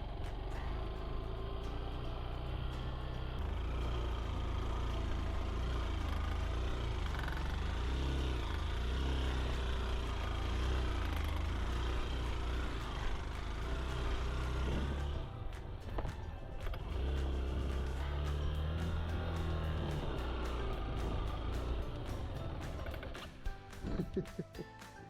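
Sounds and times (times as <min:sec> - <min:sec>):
vehicle engine rumbling while driving: 0:00.0 - 0:25.0.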